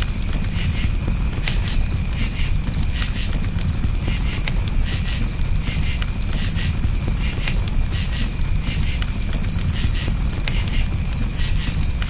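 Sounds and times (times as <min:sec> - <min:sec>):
campfire crackling: 0:00.0 - 0:12.0
crickets chirping: 0:00.0 - 0:12.0.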